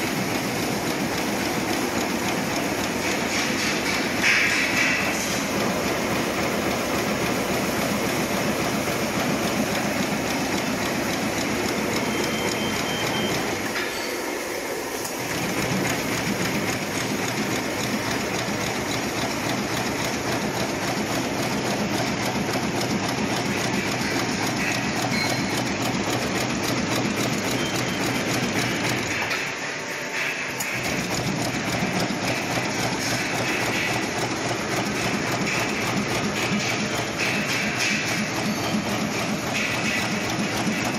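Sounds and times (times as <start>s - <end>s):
machine mechanical clatter: 0.0s - 14.3s, 14.9s - 40.9s.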